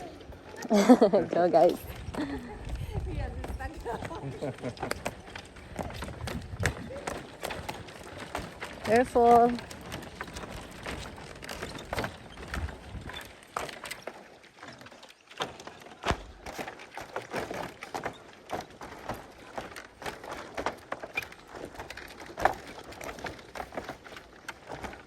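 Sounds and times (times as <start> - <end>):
footsteps on wooden slats: 0.0 - 25.0.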